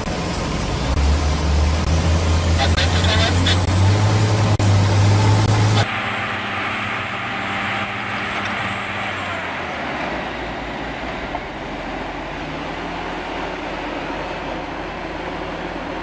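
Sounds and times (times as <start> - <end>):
heavy machinery engine humming: 0.0 - 16.0
steady mechanical noise: 0.0 - 16.0.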